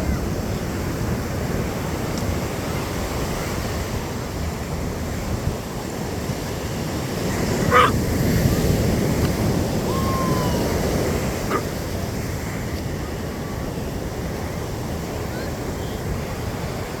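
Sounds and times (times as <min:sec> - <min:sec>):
ocean surf washing: 0:00.0 - 0:17.0
wind on microphone: 0:00.0 - 0:17.0.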